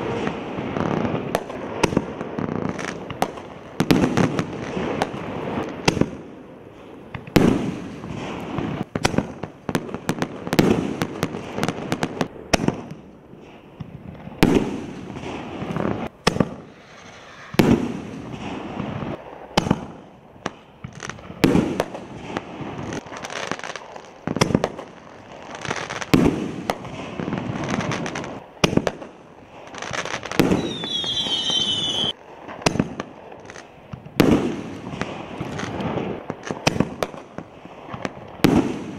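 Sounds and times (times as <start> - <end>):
firework bursts echoing: 0.0 - 38.9.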